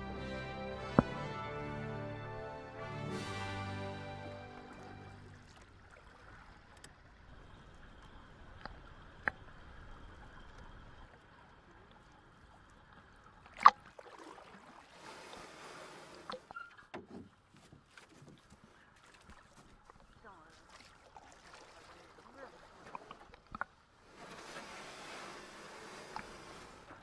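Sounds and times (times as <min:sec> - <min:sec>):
pool water lapping and sloshing: 0:03.1 - 0:27.0
water splashing: 0:04.1 - 0:27.0.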